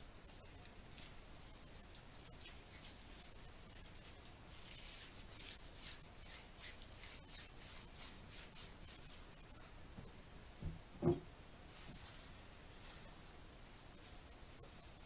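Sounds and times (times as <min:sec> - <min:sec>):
leaves rubbed between palms: 0:00.3 - 0:09.4, 0:11.7 - 0:15.0.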